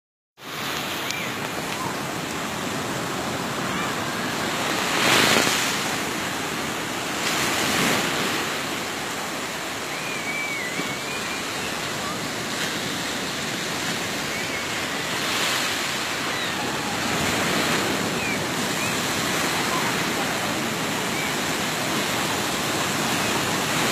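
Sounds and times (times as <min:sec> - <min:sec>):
waves breaking on sandy beach: 0:00.4 - 0:23.9.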